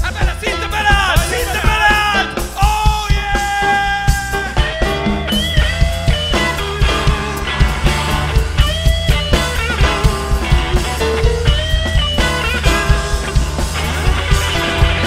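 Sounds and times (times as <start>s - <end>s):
bass line: 0.0s - 15.0s
electric guitar bending notes: 0.0s - 15.0s
steady drum beat: 0.0s - 15.0s.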